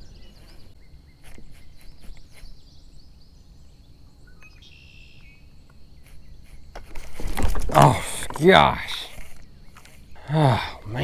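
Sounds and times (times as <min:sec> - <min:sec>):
birds calling: 0:00.0 - 0:11.0
high insect whine: 0:00.0 - 0:11.0.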